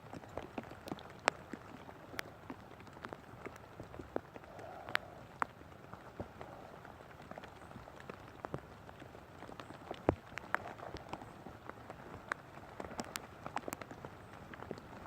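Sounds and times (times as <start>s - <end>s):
rain falling: 0.0s - 15.0s
sharp raindrops tapping: 0.0s - 15.0s.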